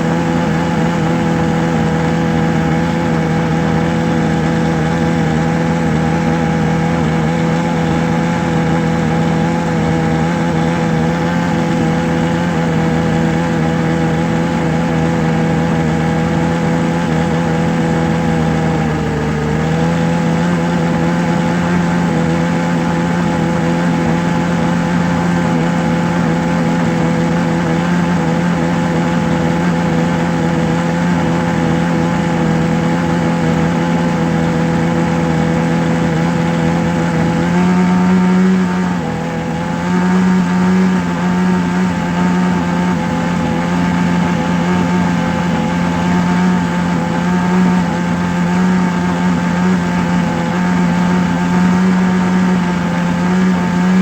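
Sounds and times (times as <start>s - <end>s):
motor droning: 0.0s - 54.0s.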